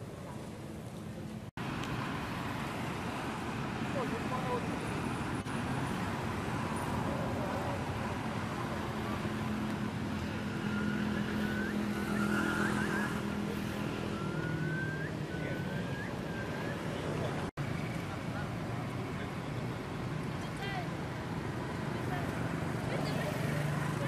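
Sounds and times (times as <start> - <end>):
roadside traffic noise: 0.0 - 24.0.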